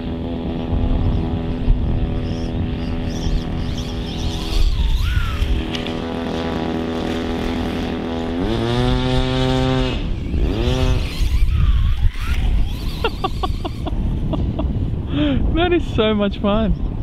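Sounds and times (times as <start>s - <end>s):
electric motor whining: 0.0s - 14.4s.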